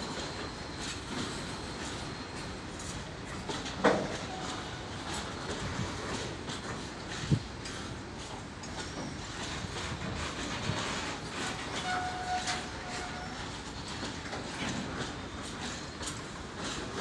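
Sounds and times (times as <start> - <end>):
freight train wheels clacking: 0.0 - 17.0.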